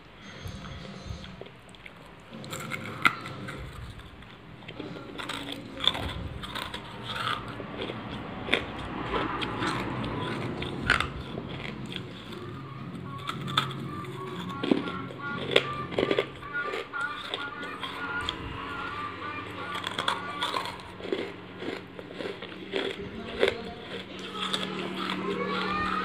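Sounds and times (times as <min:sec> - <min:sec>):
gritty chewing: 0:00.0 - 0:26.0.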